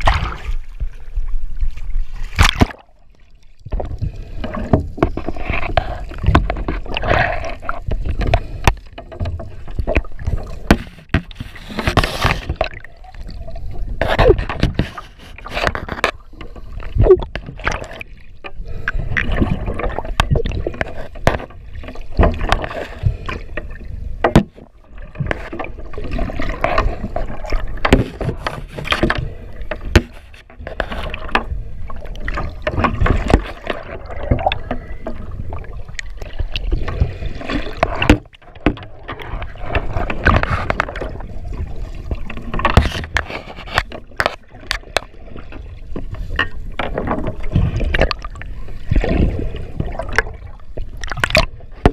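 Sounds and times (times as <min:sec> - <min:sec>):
water splashing and sloshing: 0:00.0 - 0:51.9.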